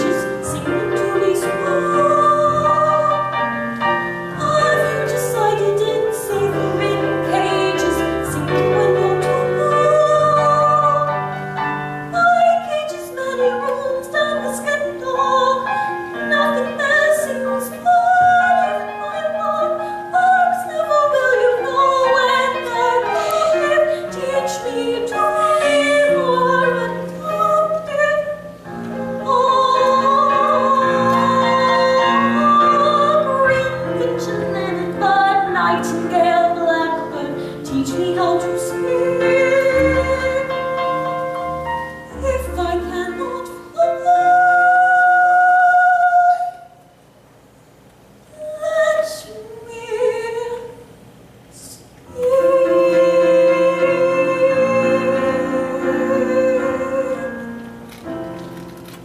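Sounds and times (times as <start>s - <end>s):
piano accompaniment: 0.0s - 46.7s, 52.1s - 59.0s
woman singing operatic ballad: 0.0s - 46.8s, 48.3s - 50.9s, 51.6s - 57.6s.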